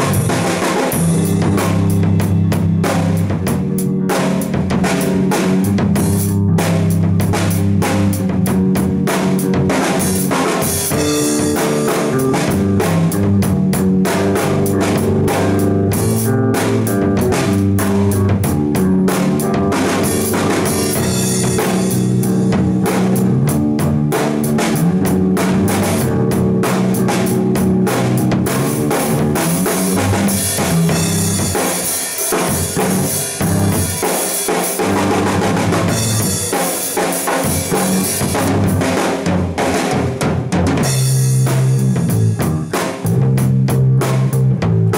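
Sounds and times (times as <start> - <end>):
band jamming: 0.0 - 44.9
drum kit beat: 0.0 - 44.9.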